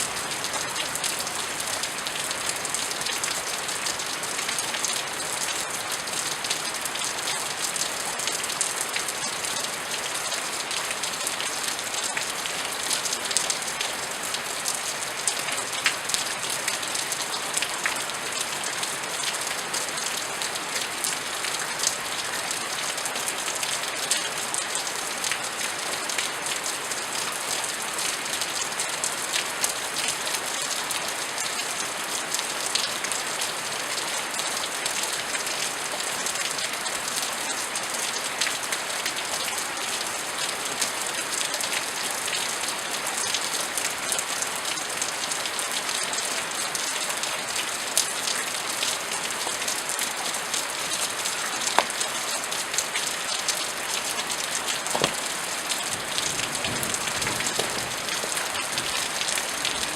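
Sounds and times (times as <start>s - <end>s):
raindrops ticking on hard surfaces: 0.0s - 59.9s
steady rain falling: 0.0s - 59.9s.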